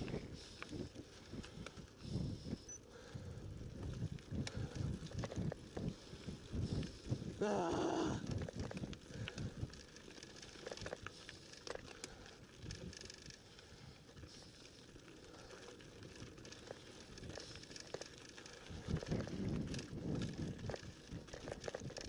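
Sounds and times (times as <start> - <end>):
bike clicks and rattles: 0.0 - 22.0
bike tyres on gravel: 0.0 - 22.0.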